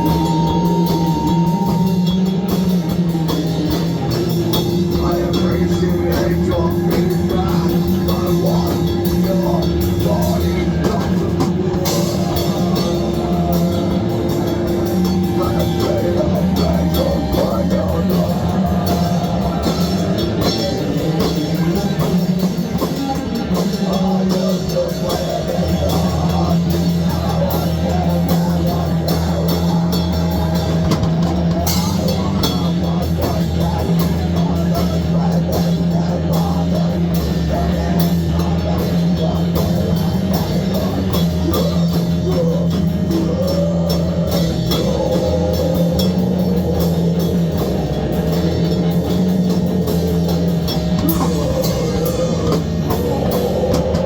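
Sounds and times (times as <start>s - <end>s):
loud rock music with drums: 0.0s - 54.0s.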